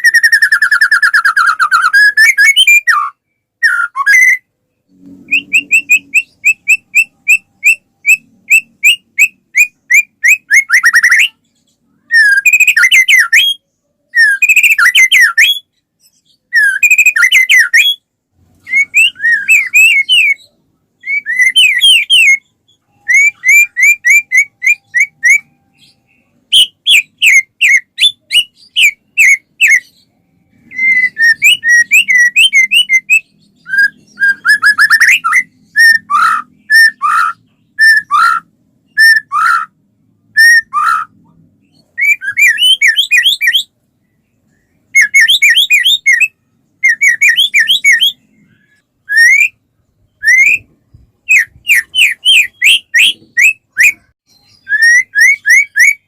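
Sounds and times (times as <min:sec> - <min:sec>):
bird singing whistled notes: 0:00.0 - 0:18.0, 0:18.6 - 0:56.0.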